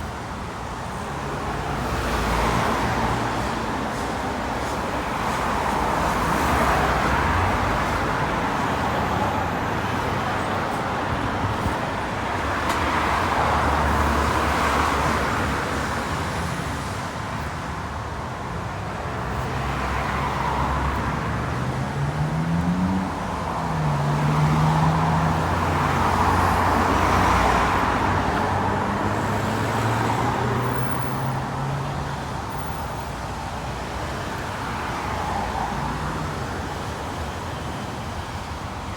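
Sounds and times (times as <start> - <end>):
cars and buses passing: 0.0 - 38.9.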